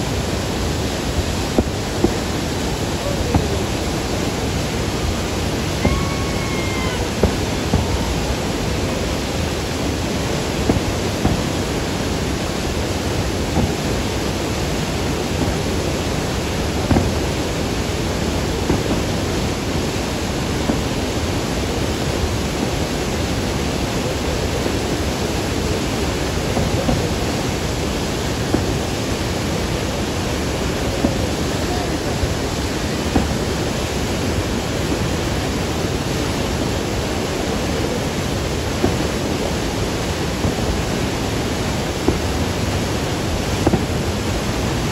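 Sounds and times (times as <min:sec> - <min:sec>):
faint fireworks bangs: 0:00.0 - 0:44.9
waterfall roar: 0:00.0 - 0:44.9.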